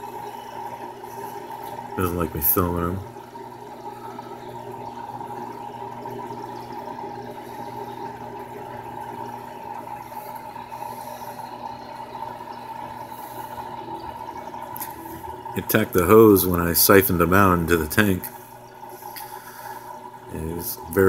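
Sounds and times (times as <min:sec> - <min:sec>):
air pump humming: 0:00.0 - 0:21.0
water bubbling: 0:00.0 - 0:21.0.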